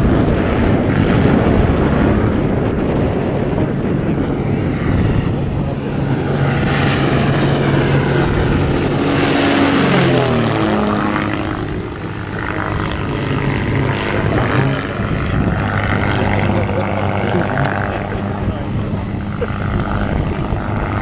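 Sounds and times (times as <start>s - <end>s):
model plane engine flypast: 0.0s - 21.0s.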